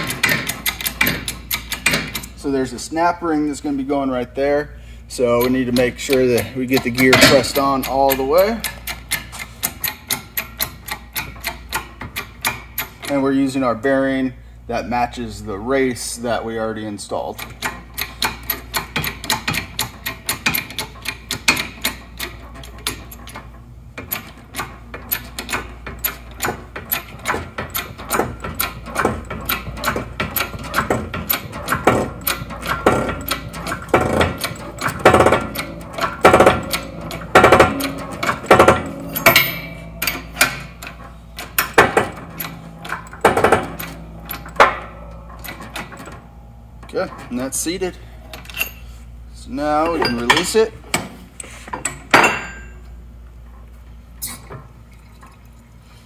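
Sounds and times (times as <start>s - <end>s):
hydraulic press clicking and clanking: 0.0s - 2.6s, 5.2s - 13.6s, 17.2s - 54.9s.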